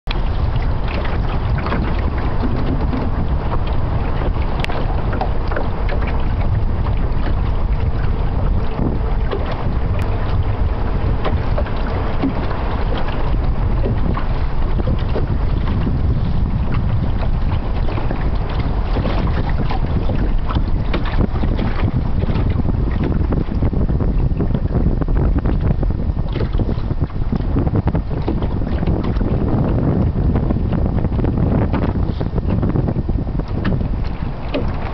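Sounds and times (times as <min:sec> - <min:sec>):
water splashing on hull: 0:00.0 - 0:34.9
wind rumbling on microphone: 0:00.0 - 0:34.9.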